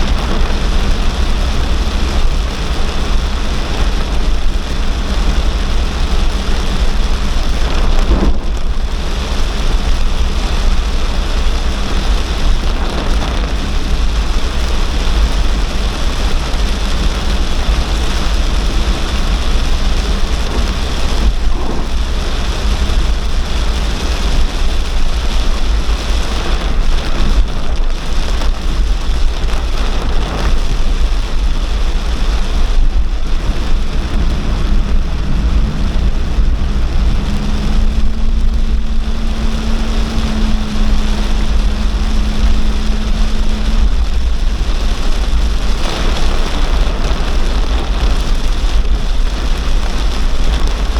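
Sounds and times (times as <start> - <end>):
deep rumble: 0.0 - 50.9
heavy rain pouring: 0.0 - 50.9.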